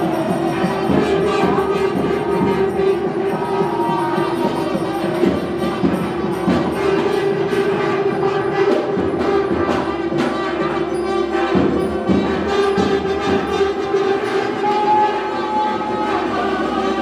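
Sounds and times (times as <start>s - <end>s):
reed wind instrument melody: 0.0s - 17.0s
sharp drum strokes: 0.0s - 17.0s.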